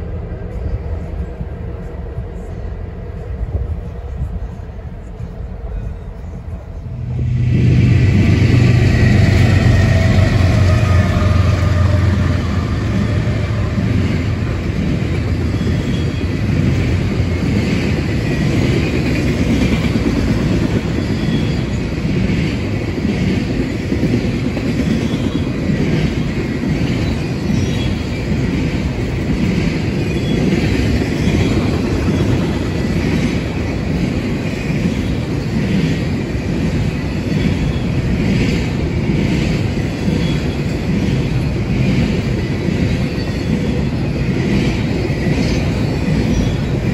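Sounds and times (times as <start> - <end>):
train cars rolling on rails: 0.0 - 46.9.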